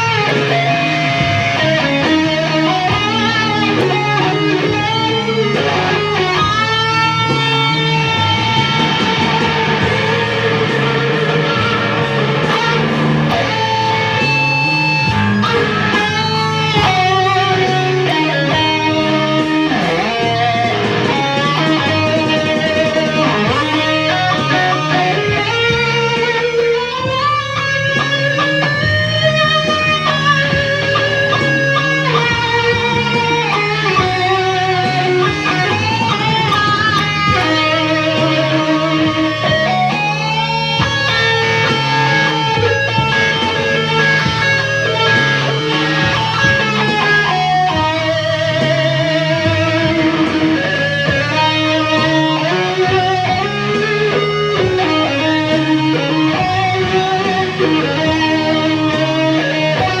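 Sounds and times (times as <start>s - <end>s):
lead electric guitar with bends: 0.0s - 60.0s
low bass notes: 0.0s - 60.0s.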